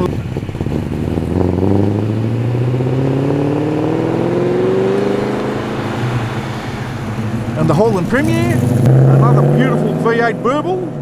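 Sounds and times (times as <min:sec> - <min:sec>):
car engine revving and pulling away: 0:00.0 - 0:11.0.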